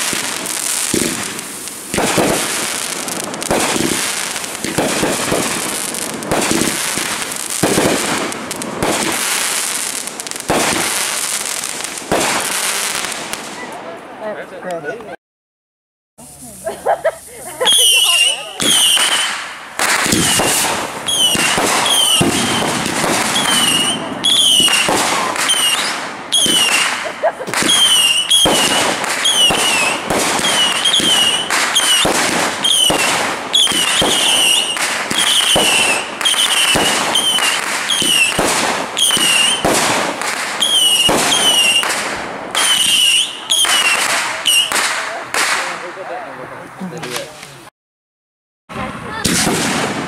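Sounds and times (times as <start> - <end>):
fireworks bursting and crackling: 0.0 - 14.2, 16.2 - 47.7, 48.7 - 50.0.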